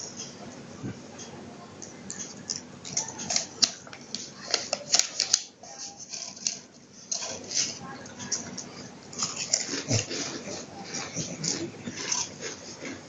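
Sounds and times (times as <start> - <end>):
dog crunching a crisp snack: 1.8 - 13.0.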